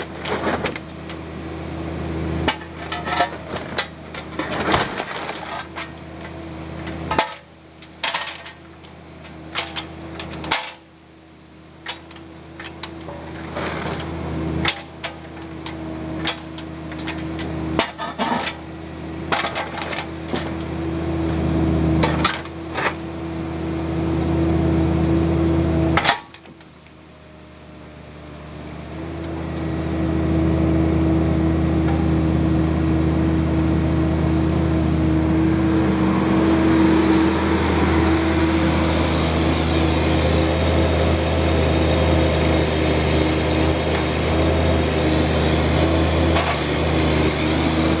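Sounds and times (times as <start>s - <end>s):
excavator diesel engine: 0.0s - 48.0s.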